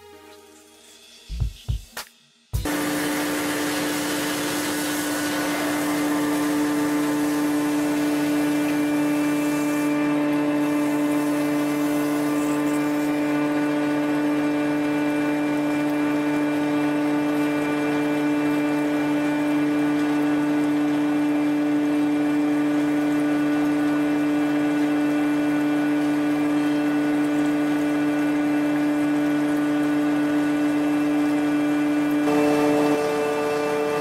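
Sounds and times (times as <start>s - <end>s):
thread rolling machine humming: 2.6s - 21.6s, 22.2s - 34.0s.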